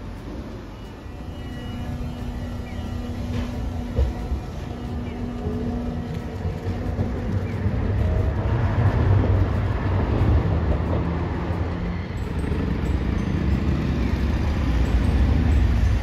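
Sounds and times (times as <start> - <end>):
road traffic: 0.0 - 16.0
tram motors and wheels rumbling: 0.0 - 16.0.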